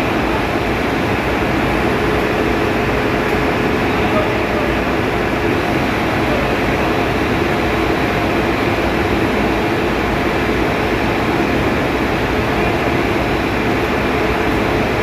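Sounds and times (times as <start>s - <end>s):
engine room machinery drone: 0.0s - 15.0s.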